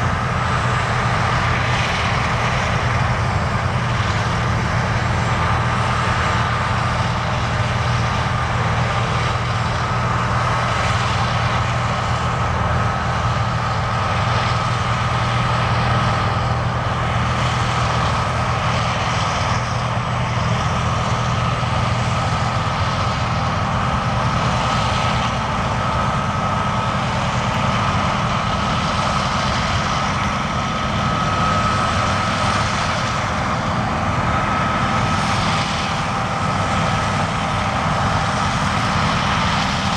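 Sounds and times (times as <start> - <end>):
combine harvester engine drone: 0.0 - 39.9
steady high whine: 0.0 - 39.9.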